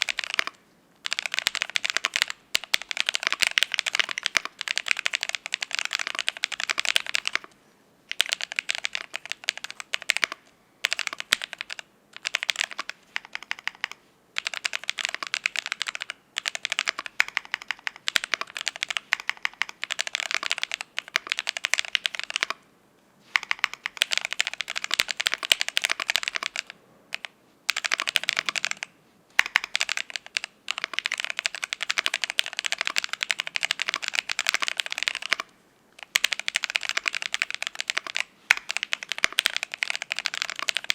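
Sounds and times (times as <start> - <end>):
mechanical keyboard typing: 0.0 - 22.6, 23.3 - 40.9.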